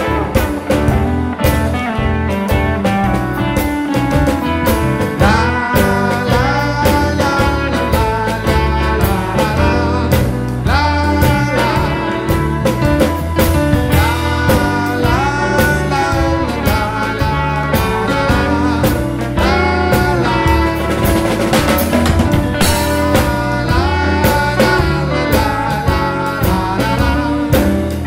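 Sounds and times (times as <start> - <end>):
drum kit beat: 0.0 - 28.0
keyboard bass line: 0.0 - 28.0.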